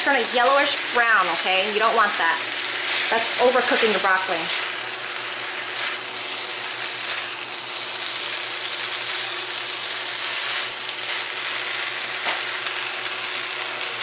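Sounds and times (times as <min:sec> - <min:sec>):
food sizzling in a wok: 0:00.0 - 0:14.0
spatula scraping a pan: 0:00.2 - 0:12.1.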